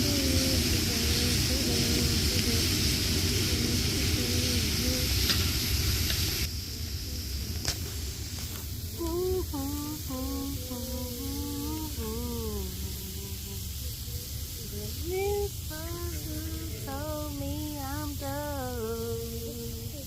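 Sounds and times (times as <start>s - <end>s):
chicken sizzling on a grill: 0.0s - 20.0s.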